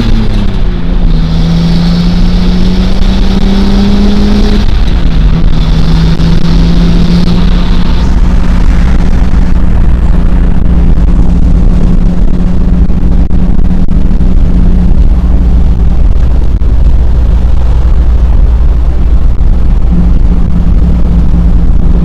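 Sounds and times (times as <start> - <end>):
car engine drone: 0.0 - 22.0
loud wind noise: 0.0 - 22.0
low road rumble: 0.0 - 22.0.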